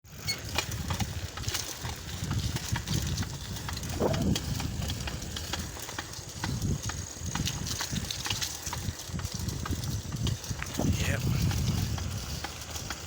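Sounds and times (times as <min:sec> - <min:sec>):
wind and tyres rumbling: 0:00.0 - 0:13.0
bicycle clicks and rattles: 0:00.1 - 0:13.0.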